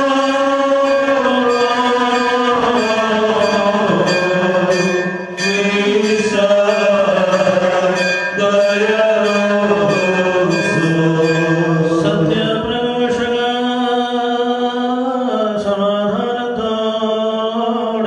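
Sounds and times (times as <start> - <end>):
men chanting: 0.0 - 18.0.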